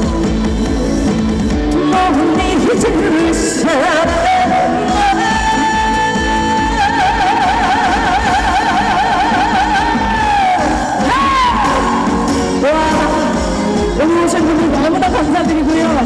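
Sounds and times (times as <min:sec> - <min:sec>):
backing band: 0:00.0 - 0:16.0
woman singing: 0:01.7 - 0:16.0.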